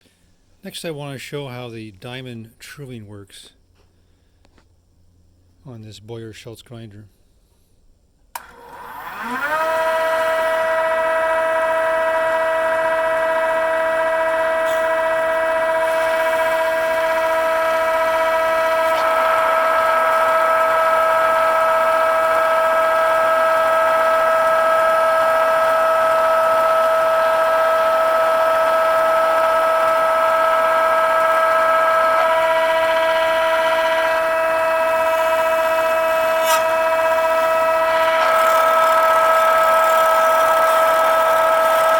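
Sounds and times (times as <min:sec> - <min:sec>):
grinder spindle whine: 0:08.3 - 0:41.9.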